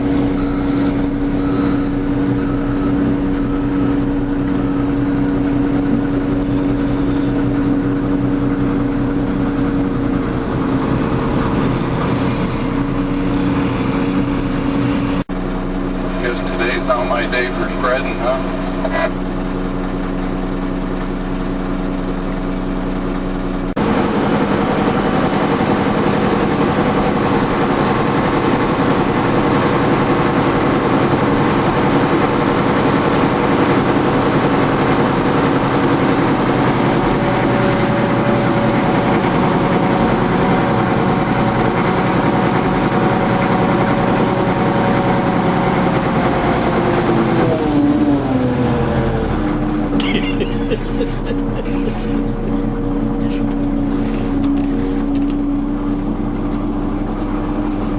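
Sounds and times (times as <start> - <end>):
heavy diesel engine rumbling: 0.0 - 57.9.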